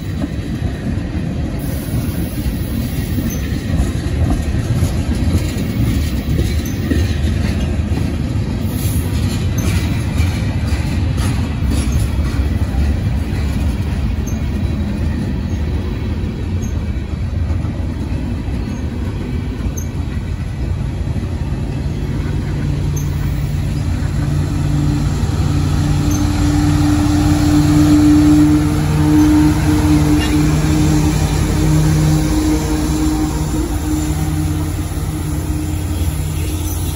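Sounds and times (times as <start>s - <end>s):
diesel locomotive hum: 0.0s - 36.9s
freight cars rumbling on rails: 0.0s - 36.9s.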